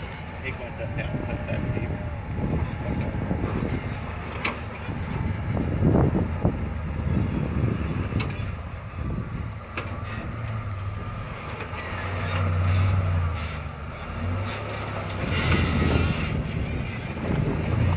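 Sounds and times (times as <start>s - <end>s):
truck engine climbing: 0.0s - 17.9s.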